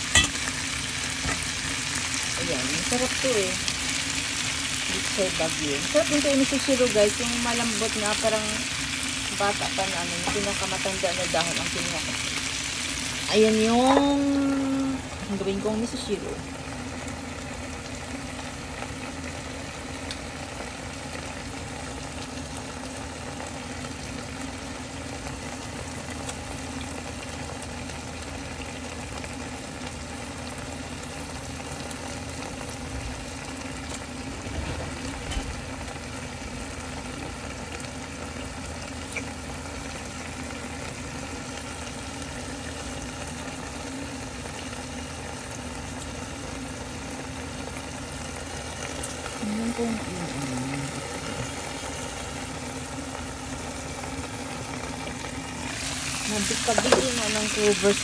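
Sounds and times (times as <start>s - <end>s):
pot simmering with bubbling hiss: 0.0s - 58.0s.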